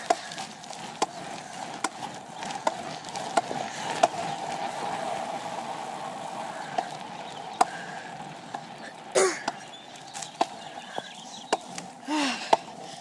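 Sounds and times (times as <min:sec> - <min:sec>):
footsteps on hard surface: 0:00.0 - 0:04.8, 0:06.6 - 0:13.0.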